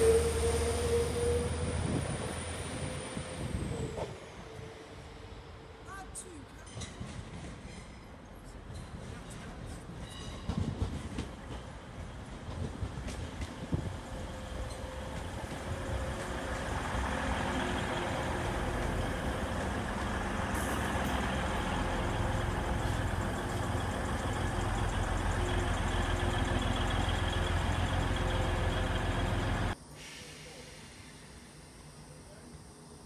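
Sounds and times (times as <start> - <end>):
train engine rumbling: 0.0 - 33.0.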